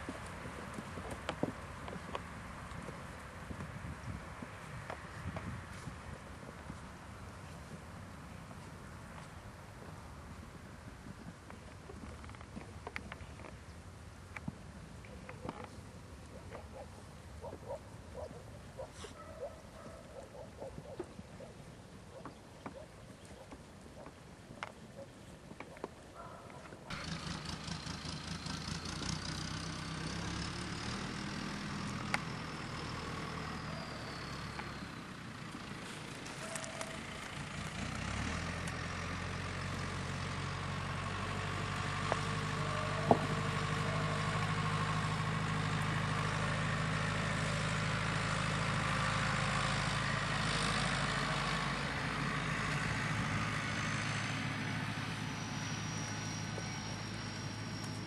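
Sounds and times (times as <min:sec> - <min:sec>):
tractor engine humming: 0:00.0 - 0:58.0.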